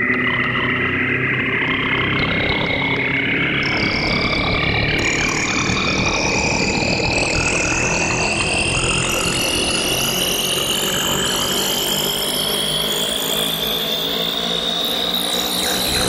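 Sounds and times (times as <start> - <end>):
synthesized dense noise: 0.0 - 12.5, 14.8 - 16.0
high rising synth tone: 0.0 - 16.0.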